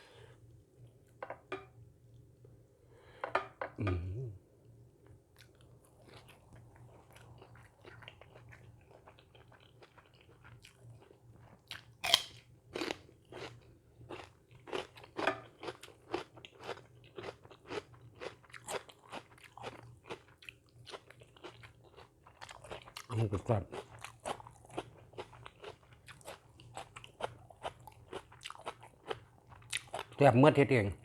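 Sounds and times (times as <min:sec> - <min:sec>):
person chewing crisp food: 0:05.4 - 0:30.2.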